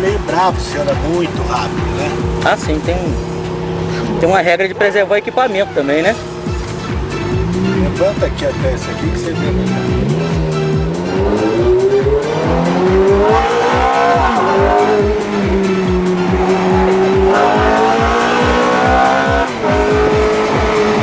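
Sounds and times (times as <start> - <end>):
engine at high revs: 0.0 - 4.8, 5.9 - 21.0
background music with steady beat: 0.0 - 21.0
tyres squealing: 0.0 - 21.0.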